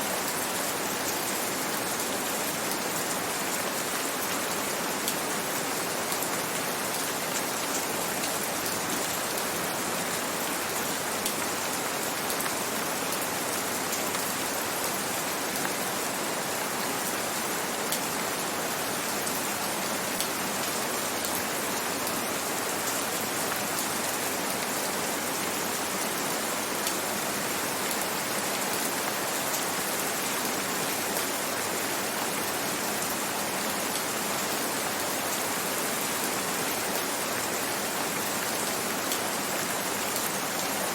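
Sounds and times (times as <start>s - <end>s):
gentle rain hiss: 0.0s - 40.9s.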